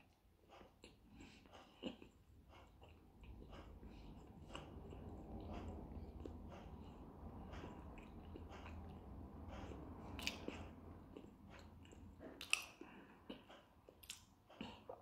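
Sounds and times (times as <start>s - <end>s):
person chewing: 0.0s - 15.0s
mouth clicks and smacks: 0.6s - 15.0s.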